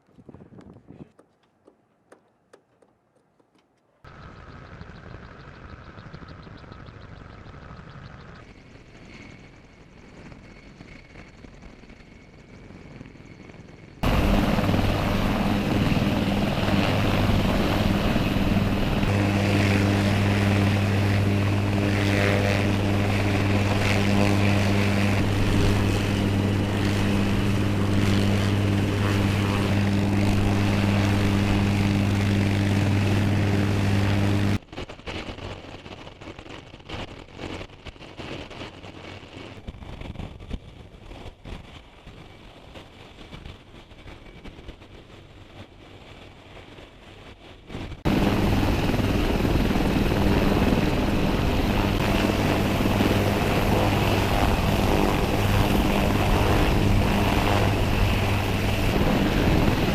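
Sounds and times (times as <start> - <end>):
helicopter droning hum: 4.0 - 59.9.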